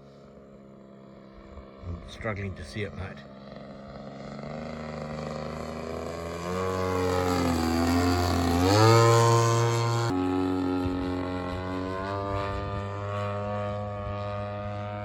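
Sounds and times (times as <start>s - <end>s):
model plane engine and propeller: 0.0s - 15.0s.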